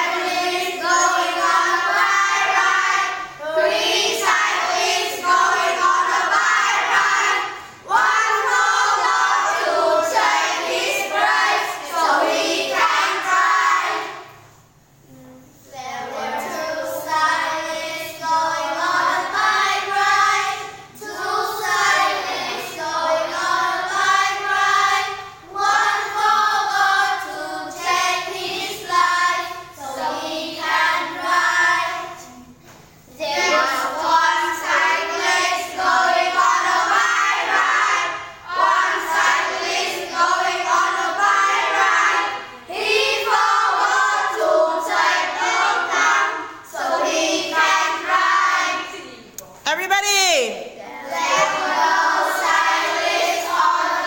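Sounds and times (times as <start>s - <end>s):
child singing: 0.0s - 14.2s, 15.1s - 49.3s, 50.8s - 54.0s.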